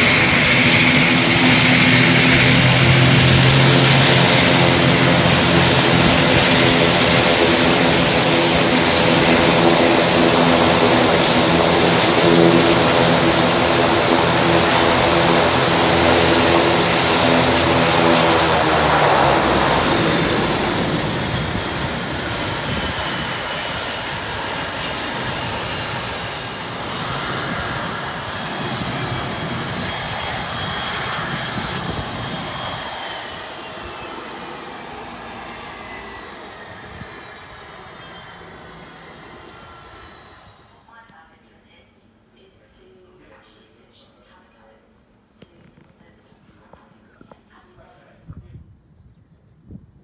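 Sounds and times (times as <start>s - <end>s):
turbine whine falling in pitch: 0.0s - 40.9s
propeller drone: 0.0s - 41.2s.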